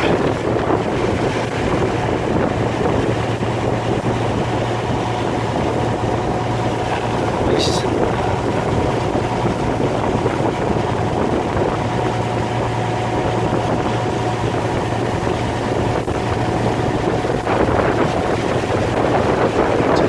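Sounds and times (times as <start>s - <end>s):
boat engine humming: 0.0s - 20.0s
wind on microphone: 0.0s - 20.0s.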